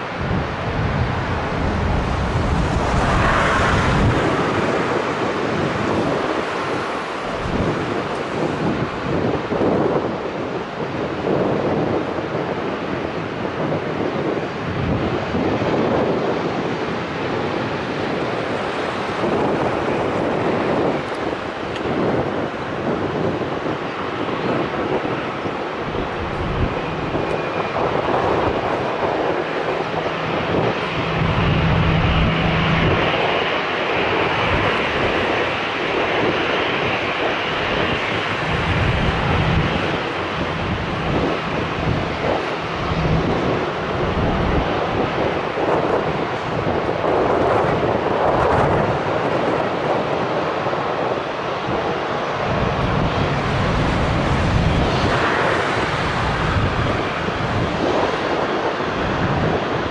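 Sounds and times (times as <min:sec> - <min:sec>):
jet engines running: 0:00.0 - 0:59.9
wind on microphone: 0:00.0 - 0:59.9.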